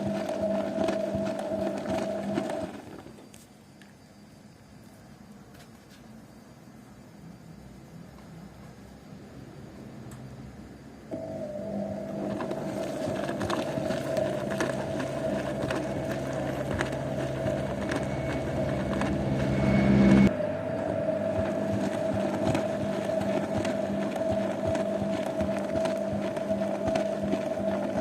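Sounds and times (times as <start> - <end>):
washing machine motor hum: 0.0 - 3.7, 7.6 - 28.0.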